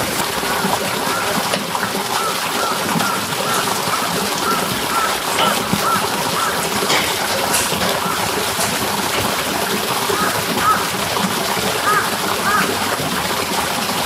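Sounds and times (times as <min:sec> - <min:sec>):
rain falling and splattering: 0:00.0 - 0:14.0.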